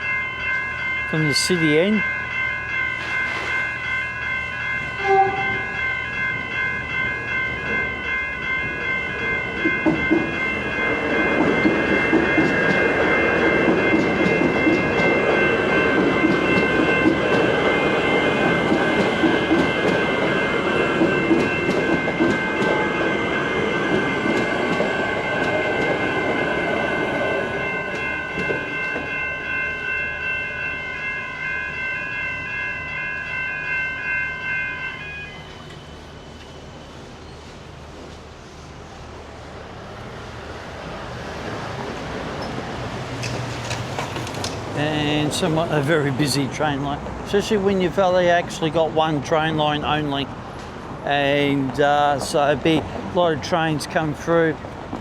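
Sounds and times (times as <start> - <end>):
electric train rumbling on viaduct: 0.0 - 55.0.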